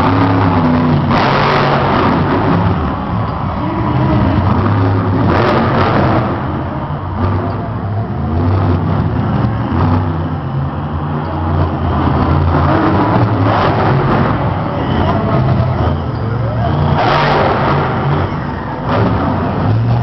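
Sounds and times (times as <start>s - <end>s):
truck engine revving loudly: 0.0s - 20.0s.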